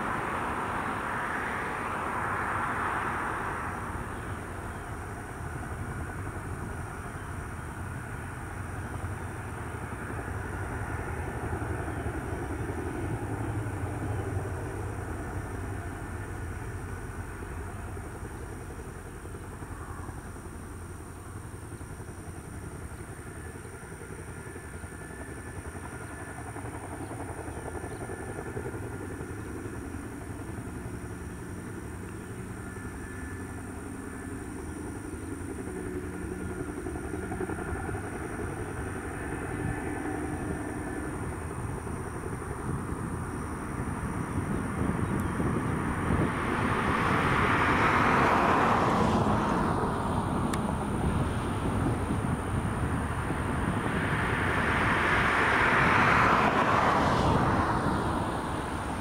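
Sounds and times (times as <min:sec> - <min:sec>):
helicopter rotors and engines rumbling: 0:00.0 - 0:59.0.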